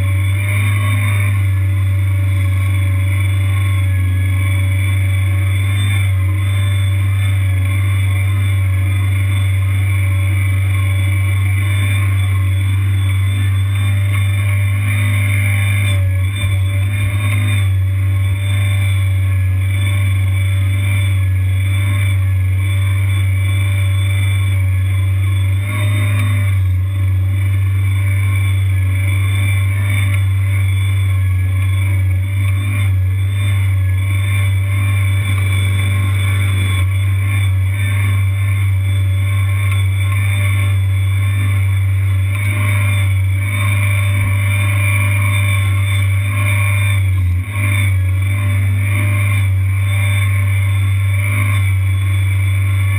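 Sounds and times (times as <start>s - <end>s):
mini skid steer engine running: 0.0s - 52.9s.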